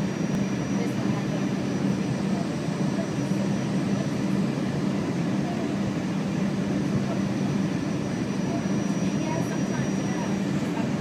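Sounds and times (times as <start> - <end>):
faint high whine: 0.0 - 11.0
jet cabin engine rumble: 0.0 - 11.0.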